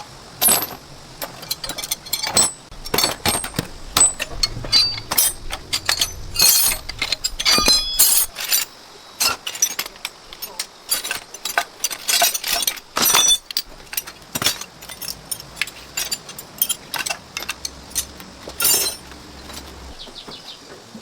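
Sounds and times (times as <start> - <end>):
metal tools clinking and clanking: 0.4 - 20.4.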